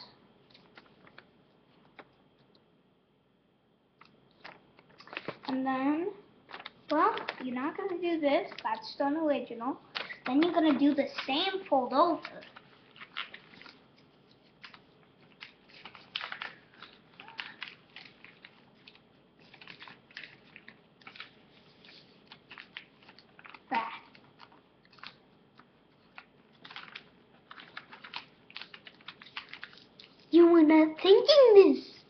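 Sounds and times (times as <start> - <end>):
paper crinkling and rustling: 0.5 - 2.2, 4.0 - 5.6, 6.5 - 9.0, 9.9 - 30.4.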